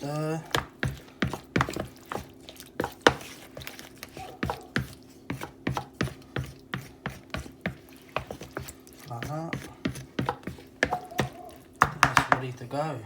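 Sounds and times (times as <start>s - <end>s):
chicken stirred in wet marinade: 0.0s - 12.9s.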